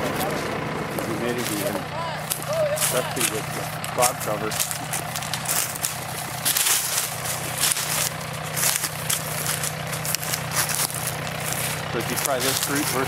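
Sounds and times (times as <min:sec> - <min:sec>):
engine idling: 0:00.0 - 0:13.0
rustling crackling noises: 0:00.2 - 0:13.0.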